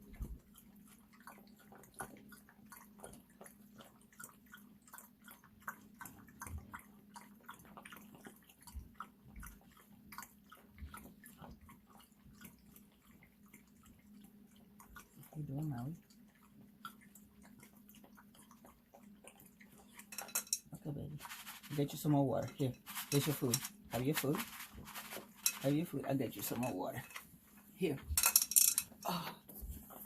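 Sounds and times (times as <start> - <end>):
dog lapping water: 0.0 - 27.8.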